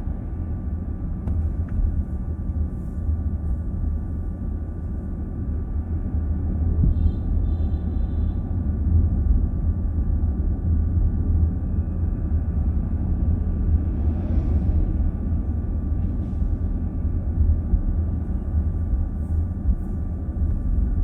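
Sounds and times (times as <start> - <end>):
car cabin road rumble: 0.0 - 7.6, 8.5 - 21.0.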